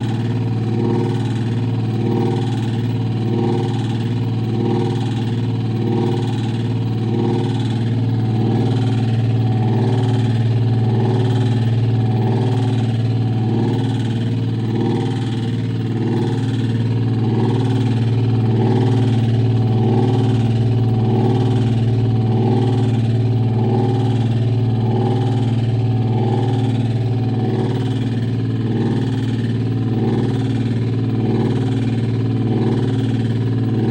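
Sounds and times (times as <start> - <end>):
rhythmic grinding pulse: 0.0 - 33.9
washing machine motor hum: 0.0 - 33.9.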